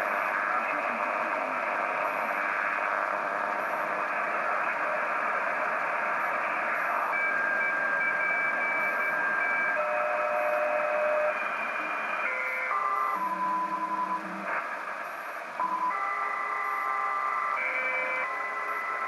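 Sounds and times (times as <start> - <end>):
shortwave receiver hiss: 0.0 - 19.0.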